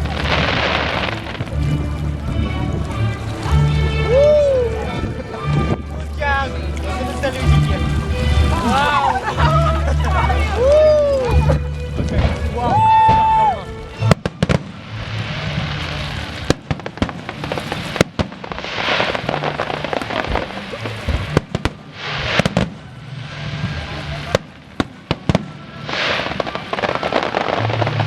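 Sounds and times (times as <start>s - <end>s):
crackling hissing swells: 0.0s - 28.0s.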